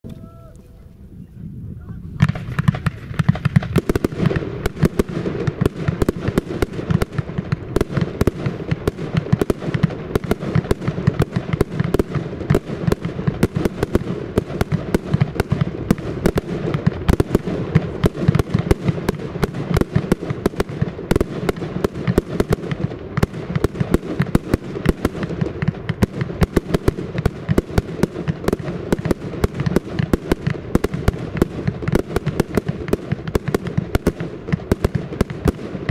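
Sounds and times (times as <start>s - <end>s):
fireworks firing rapid bangs: 2.2s - 35.9s.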